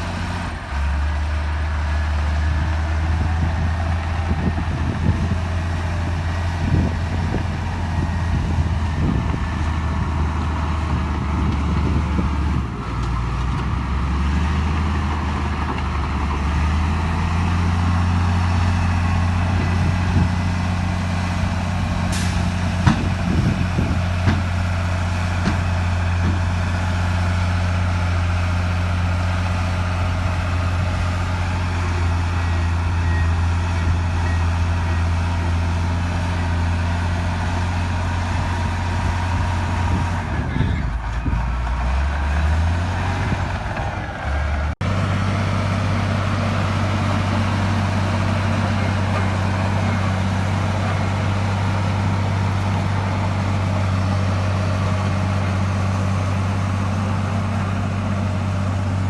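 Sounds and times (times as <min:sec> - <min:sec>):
diesel earthmover engine: 0:00.0 - 0:59.0.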